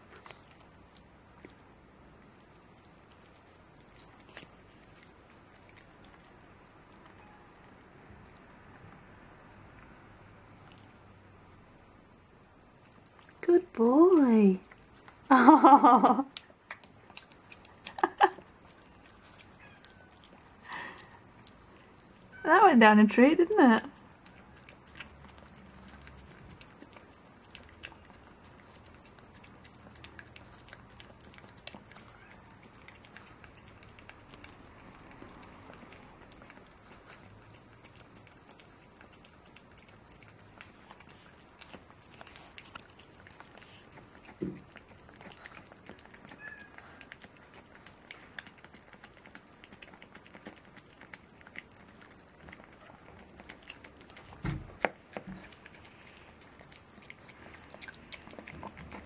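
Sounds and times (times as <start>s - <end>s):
dog licking and lapping food: 0.0s - 59.0s.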